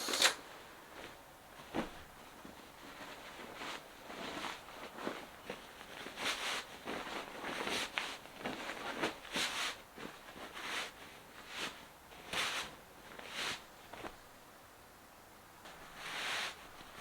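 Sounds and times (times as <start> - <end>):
soft rustles and light knocks: 0.9 - 14.3, 15.6 - 17.0.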